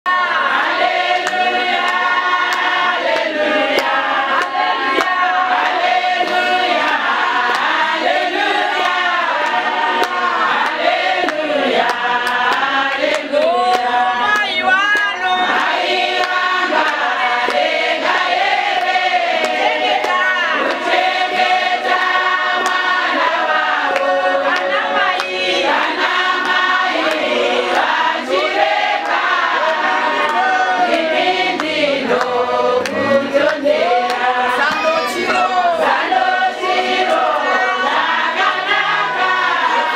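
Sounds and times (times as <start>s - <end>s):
women's choir singing: 0.1s - 39.9s.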